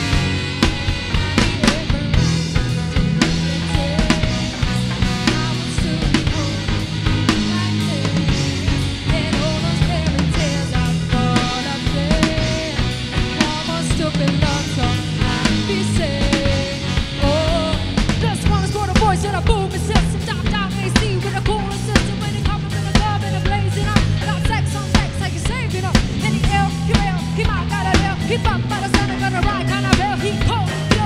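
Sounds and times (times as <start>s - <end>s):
drum kit beat: 0.0s - 31.0s
live band playing pop: 0.0s - 31.0s
woman singing: 0.0s - 31.0s.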